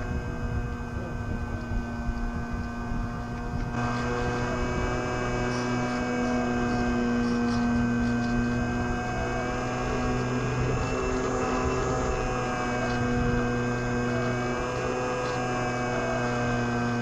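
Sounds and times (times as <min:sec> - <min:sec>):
model plane motor whine: 0:00.0 - 0:17.0
rushing wind: 0:00.0 - 0:17.0.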